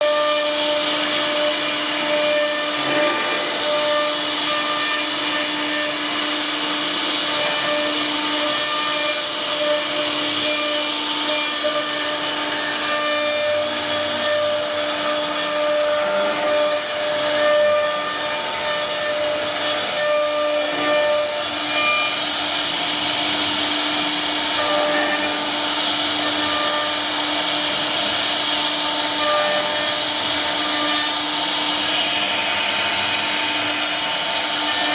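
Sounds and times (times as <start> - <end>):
router spindle whine: 0.0 - 34.9
hiss of cutting and dust extraction: 0.1 - 34.9.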